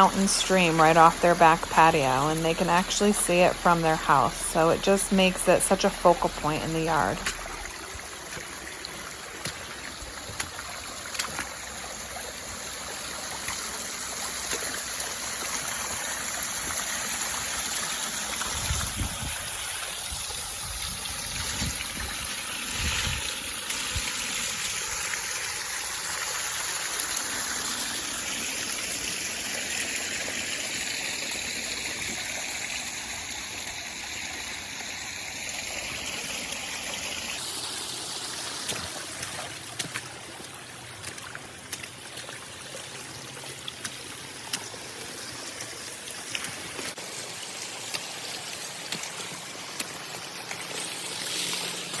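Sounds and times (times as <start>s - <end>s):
water rushing over rocks: 0.0s - 52.0s.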